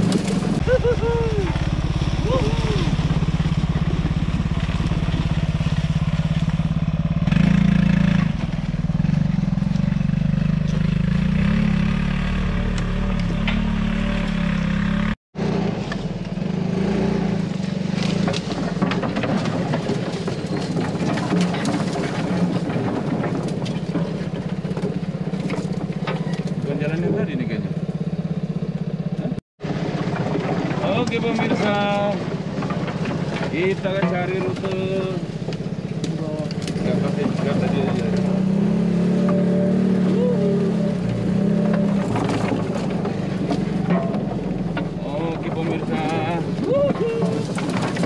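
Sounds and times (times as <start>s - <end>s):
knocks and rattles: 0.0s - 15.1s, 17.5s - 28.9s, 29.6s - 39.9s, 40.9s - 48.0s
off-road vehicle engine at low speed: 0.0s - 48.0s.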